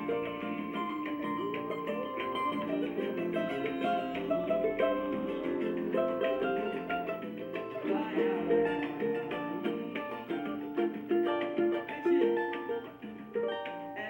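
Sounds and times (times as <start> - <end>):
cavaquinho plucking melody: 0.0 - 14.0.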